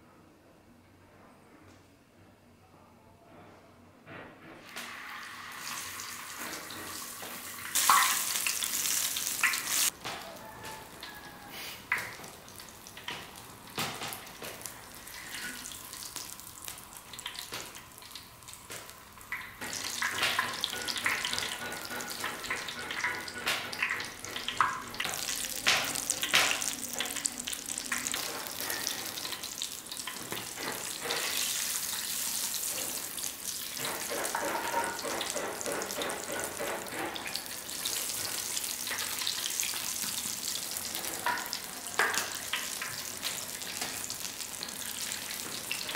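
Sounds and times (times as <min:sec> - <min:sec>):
food deep-frying in oil: 0:04.6 - 0:45.9.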